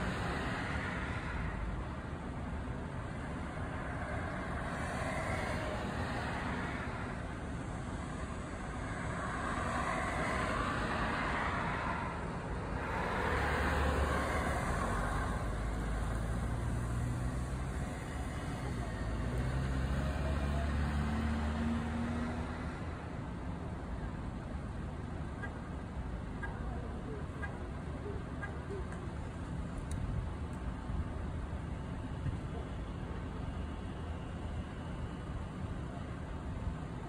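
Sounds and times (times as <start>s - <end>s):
vehicles passing with tyre noise: 0.0s - 37.0s.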